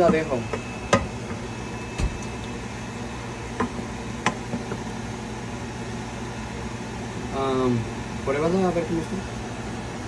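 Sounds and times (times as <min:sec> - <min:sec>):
range hood fan humming: 0:00.0 - 0:10.0.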